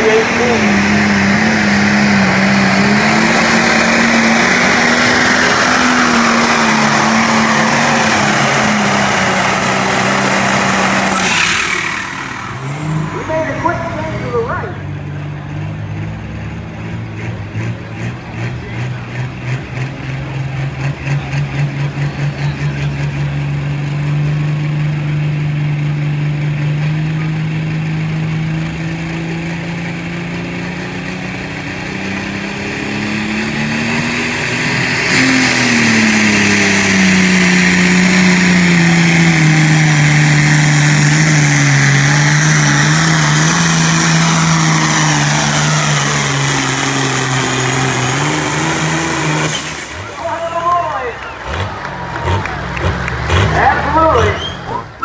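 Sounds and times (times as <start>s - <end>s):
tractor diesel engine full throttle: 0.0s - 55.0s.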